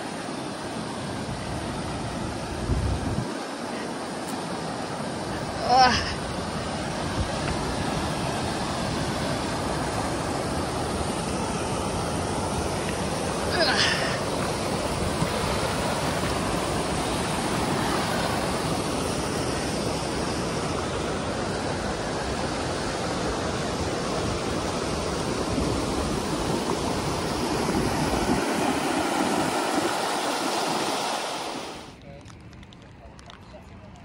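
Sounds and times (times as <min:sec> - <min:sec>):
creek rushing over rocks: 0:00.0 - 0:32.0.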